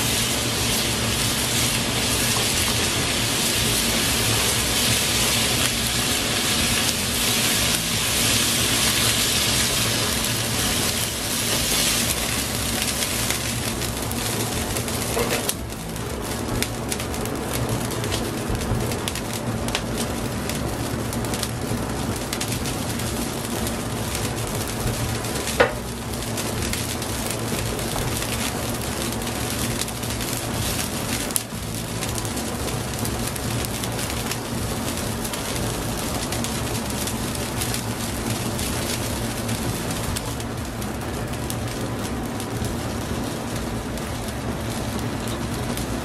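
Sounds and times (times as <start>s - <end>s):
broth simmering bubbling: 0.0s - 46.0s.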